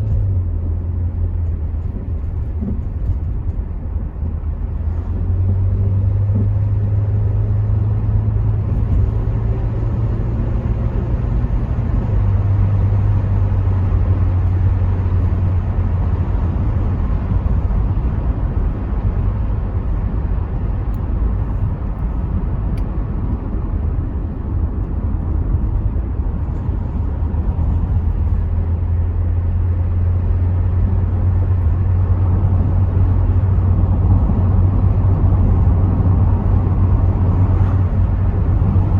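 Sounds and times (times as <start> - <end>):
car engine drone: 0.0 - 38.9
tyre and wind noise: 0.0 - 38.9.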